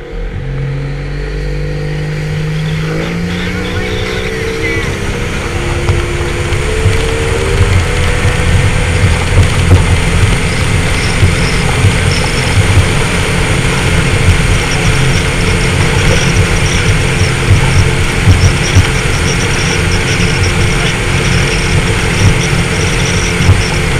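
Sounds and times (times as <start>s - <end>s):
low buffeting: 0.0s - 23.9s
motorboat engine drone: 0.0s - 23.9s
rushing wind and water: 1.4s - 23.9s.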